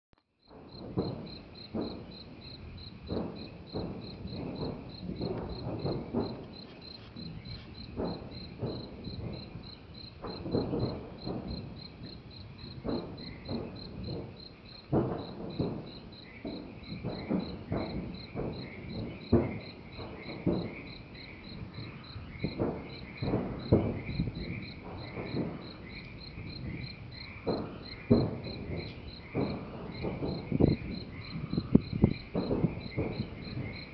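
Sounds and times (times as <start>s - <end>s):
crickets chirping: 0.4s - 33.9s
hail cannons booming: 0.4s - 33.9s.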